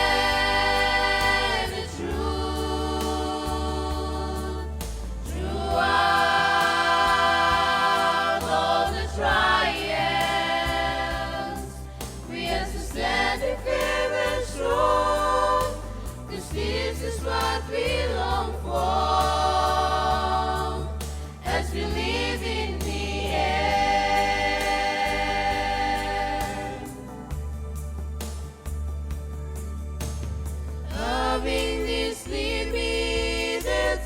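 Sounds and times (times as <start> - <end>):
choir singing in harmony: 0.0 - 28.8, 30.5 - 34.0.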